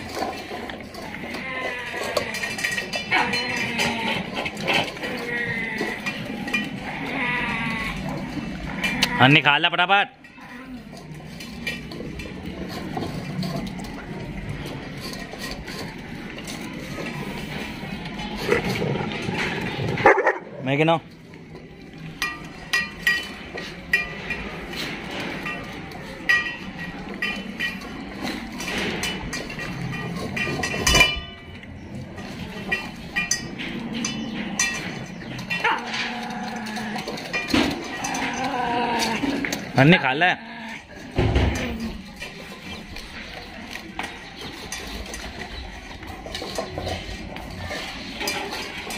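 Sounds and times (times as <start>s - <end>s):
metal bowls clinking on tiled floor: 0.0s - 48.9s.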